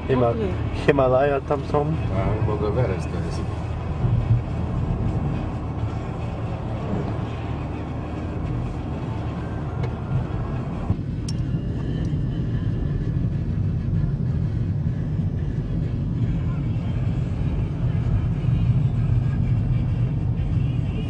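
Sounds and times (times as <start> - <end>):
road and engine rumble in car: 0.0 - 21.0.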